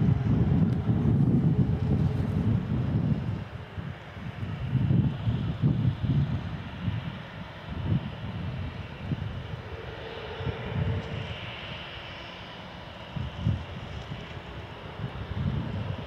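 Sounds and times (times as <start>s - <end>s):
jet engines running: 0.0s - 16.0s
wind buffeting microphone: 0.0s - 16.0s.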